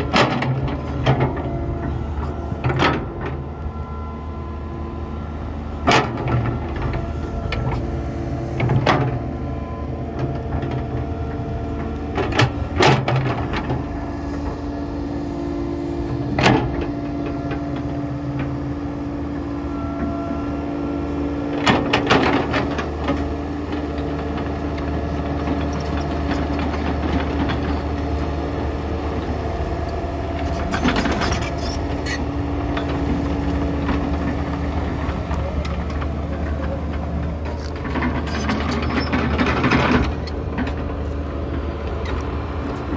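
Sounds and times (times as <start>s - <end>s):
excavator diesel engine humming: 0.0s - 42.9s.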